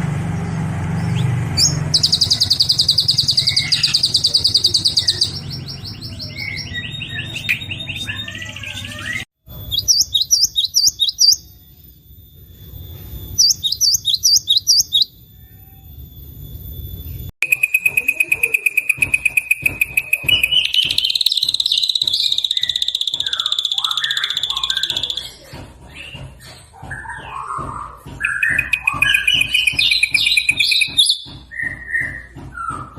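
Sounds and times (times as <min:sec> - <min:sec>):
bird chirps: 0:00.2 - 0:32.9
songbird trill: 0:00.4 - 0:26.2, 0:27.0 - 0:32.9.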